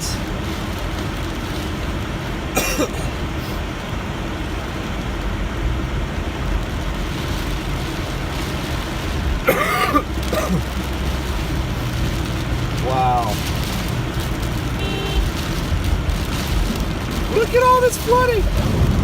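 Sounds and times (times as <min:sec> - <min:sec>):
low engine hum: 0:00.0 - 0:19.0
road and rain noise inside car: 0:00.0 - 0:19.0.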